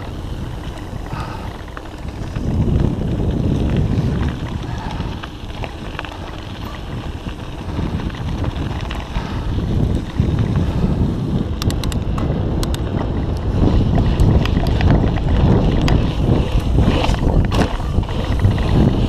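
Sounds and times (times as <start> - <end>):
bike clicks and rattles: 0.0 - 19.0
wind buffeting microphone: 0.0 - 19.0.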